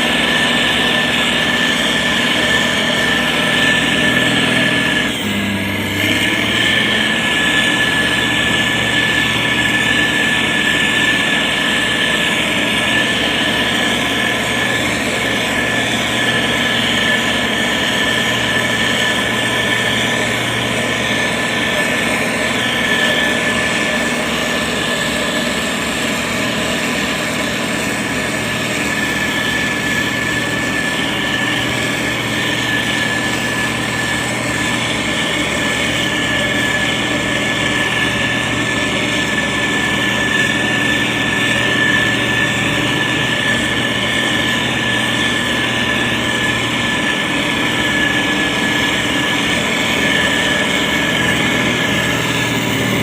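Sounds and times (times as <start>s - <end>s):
diesel engine running: 0.0s - 53.0s
high whine: 0.0s - 53.0s.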